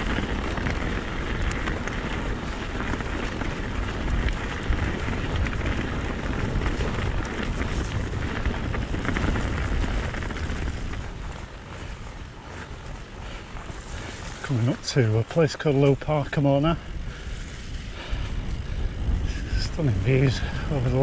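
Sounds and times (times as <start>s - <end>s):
bike rattling: 0.0s - 21.0s
tyres crunching on gravel: 0.0s - 21.0s
wind buffeting microphone: 0.0s - 21.0s.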